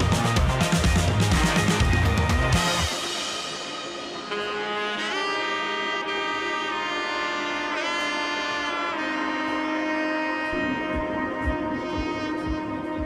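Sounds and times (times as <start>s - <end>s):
lead melody with pitch bends: 0.0s - 13.0s
steady music backing: 0.0s - 13.0s.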